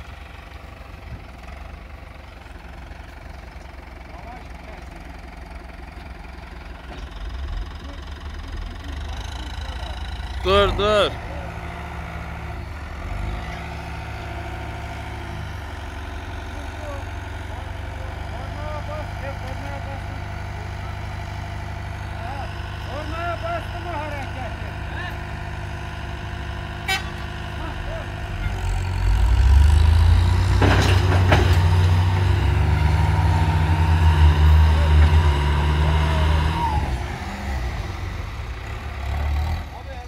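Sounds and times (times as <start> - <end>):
diesel engines idling: 0.0 - 40.0.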